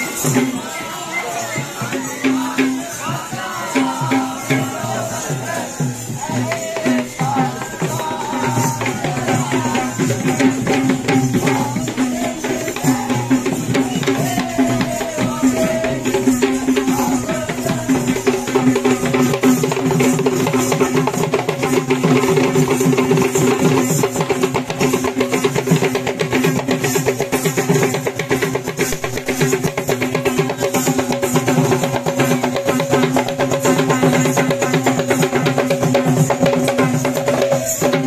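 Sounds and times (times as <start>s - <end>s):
drum playing fast rhythm: 0.0s - 38.0s.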